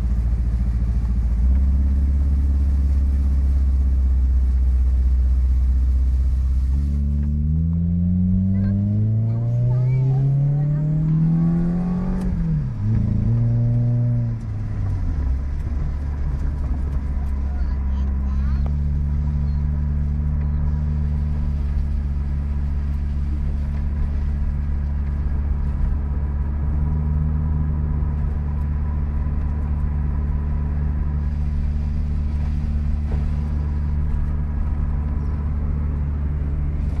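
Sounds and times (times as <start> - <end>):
car engine droning: 0.0 - 37.0.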